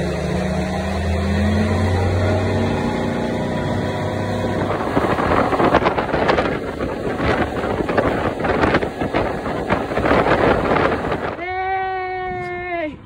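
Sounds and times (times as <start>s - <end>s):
wind buffeting microphone: 0.0s - 12.4s
motorboat engine droning: 0.0s - 13.0s.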